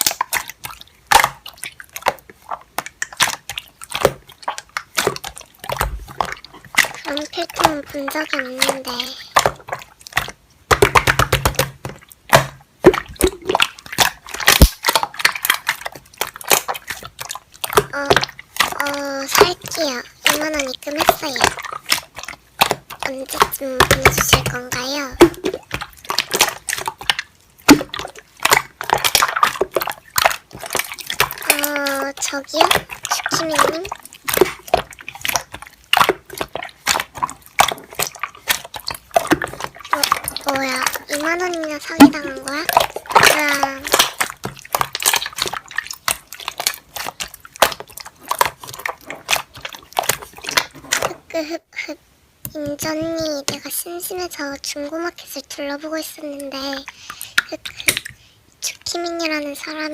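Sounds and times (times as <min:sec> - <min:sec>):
slime squished by hand: 0:00.0 - 0:51.5, 0:56.4 - 0:58.2.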